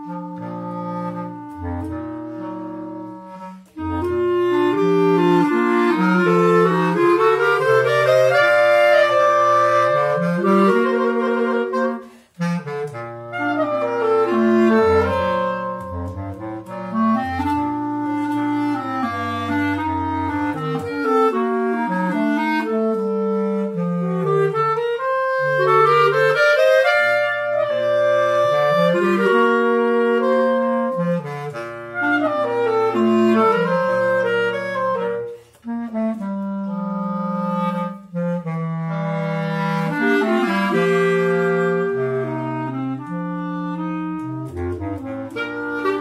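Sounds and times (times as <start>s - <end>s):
bass clarinet low line: 0.0s - 46.0s.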